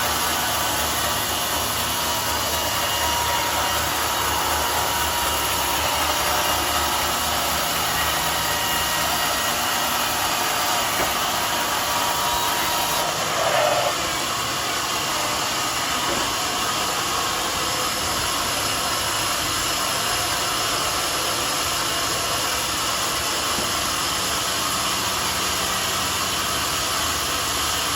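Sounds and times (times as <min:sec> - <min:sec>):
sawmill running: 0:00.0 - 0:27.9.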